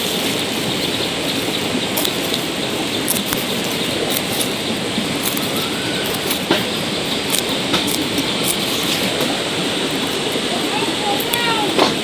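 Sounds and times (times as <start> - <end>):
steady rain falling: 0.0 - 12.0
ticks of raindrops: 0.0 - 12.0.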